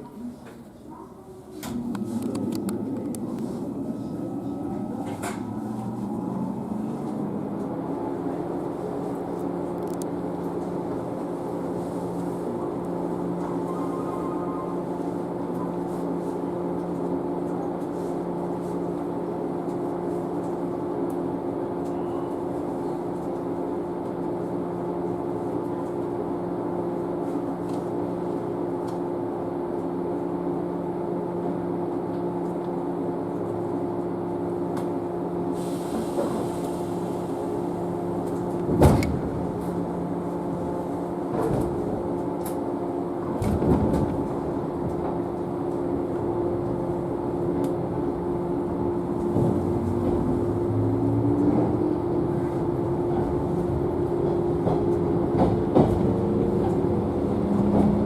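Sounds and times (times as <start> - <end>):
electrical equipment hum: 0.0 - 58.0.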